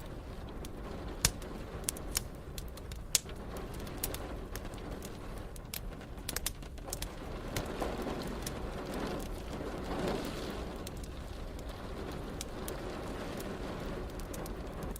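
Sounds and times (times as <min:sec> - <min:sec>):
rain: 0:00.0 - 0:14.9
wood fire crackling: 0:00.0 - 0:14.9.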